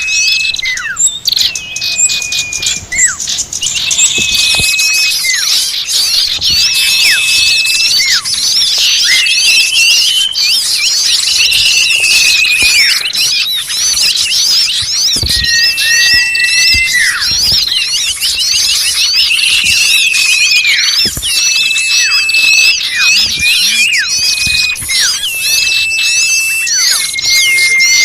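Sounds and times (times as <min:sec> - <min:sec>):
chorus of small birds calling: 0:00.0 - 0:28.0.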